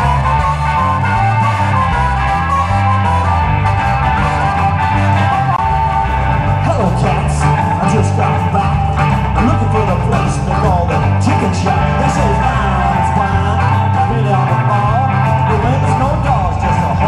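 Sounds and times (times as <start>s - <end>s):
bass guitar line: 0.0s - 17.0s
drum kit: 0.0s - 17.0s
electric guitar: 0.0s - 17.0s
harmonica: 0.0s - 17.0s.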